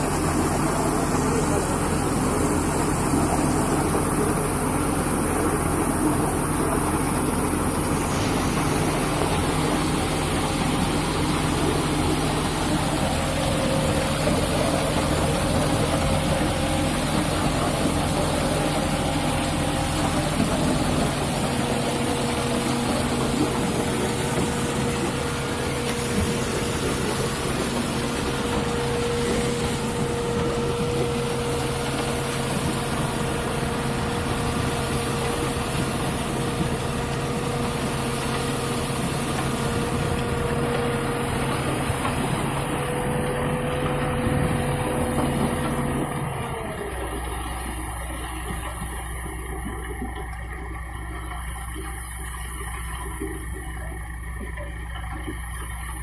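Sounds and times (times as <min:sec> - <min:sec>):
concrete pouring down chute: 0:00.0 - 0:56.0
diesel engine running: 0:00.0 - 0:56.0.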